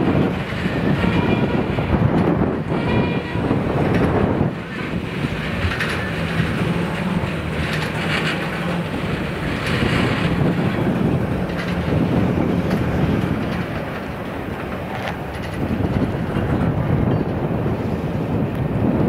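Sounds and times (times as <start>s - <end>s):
train wheel clicks: 0.0s - 17.5s
train wheels rumbling on rail: 0.0s - 19.0s.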